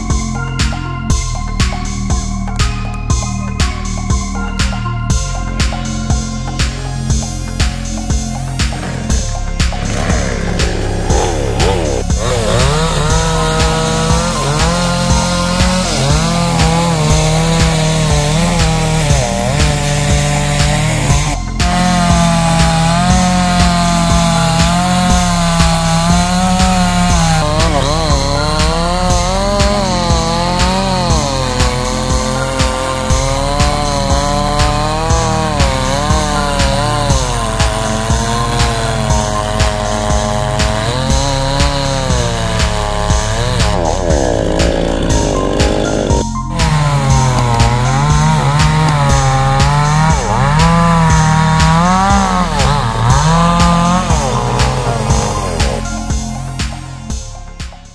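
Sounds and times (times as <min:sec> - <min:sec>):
background music with steady beat: 0:00.0 - 0:57.9
chainsaw cutting wood: 0:05.6 - 0:57.2.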